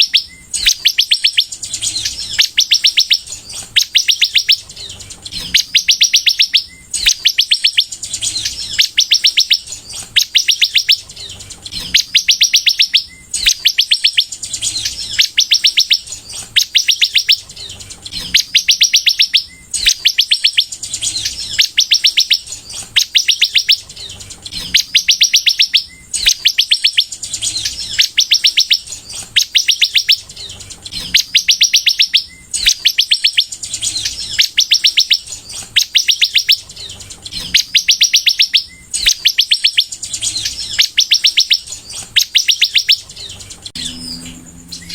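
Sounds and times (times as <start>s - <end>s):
sunbird singing rapid trills: 0.0s - 44.9s.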